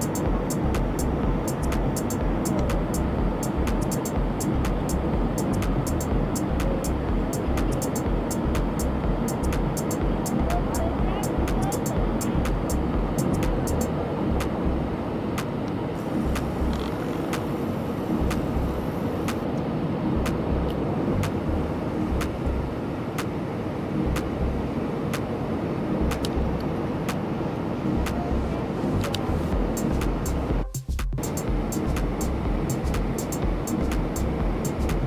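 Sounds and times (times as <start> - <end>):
low buffeting: 0.0 - 15.3, 16.0 - 19.4, 20.1 - 22.8, 24.0 - 24.8, 27.9 - 35.0
jet engines and airflow rushing: 0.0 - 35.0.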